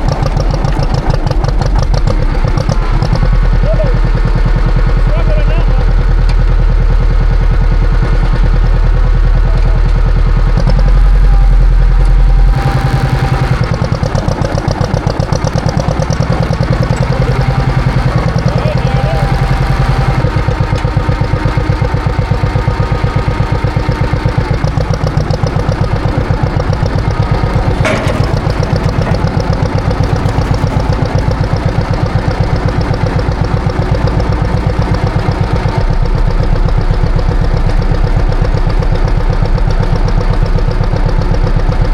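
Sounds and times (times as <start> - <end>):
tractor engine putting: 0.0 - 41.9.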